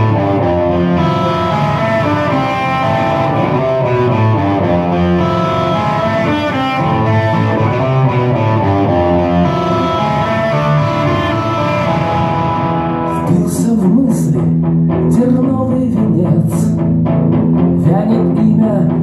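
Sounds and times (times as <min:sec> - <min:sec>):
distorted electric guitar: 0:00.0 - 0:19.0
rock band playing: 0:00.0 - 0:19.0.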